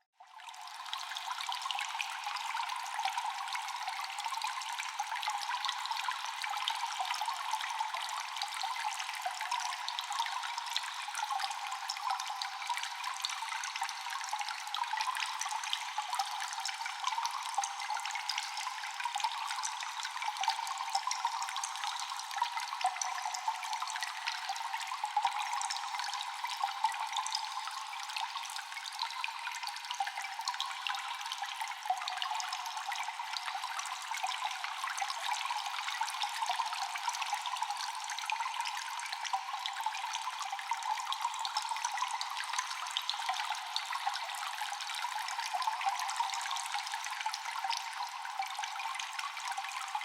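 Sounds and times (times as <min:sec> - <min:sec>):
water dripping in a cave: 0:00.2 - 0:50.0.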